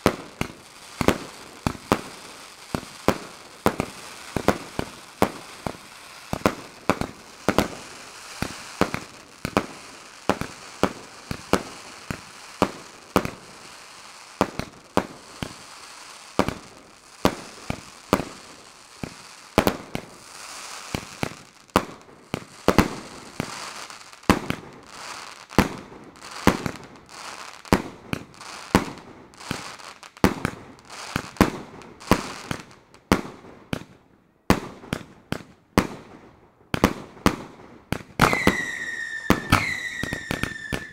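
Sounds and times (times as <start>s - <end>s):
crackling and hissing sparks: 0.0s - 32.8s.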